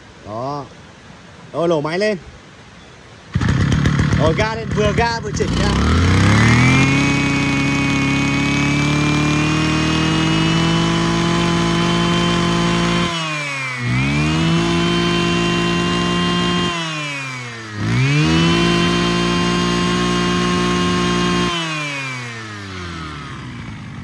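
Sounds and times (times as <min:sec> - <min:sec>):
brush cutter engine revving: 0:03.3 - 0:24.0.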